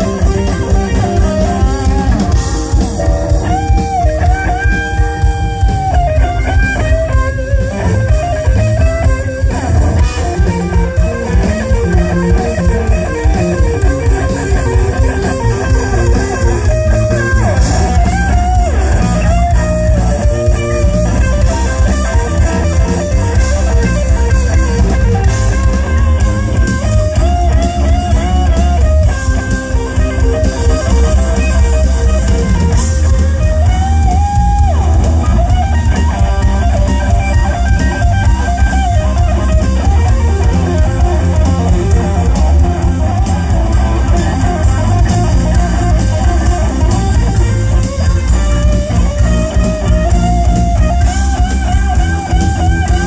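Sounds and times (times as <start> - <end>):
bass guitar: 0.0 - 53.0
drums: 0.0 - 53.0
electric guitar lead: 0.0 - 53.0.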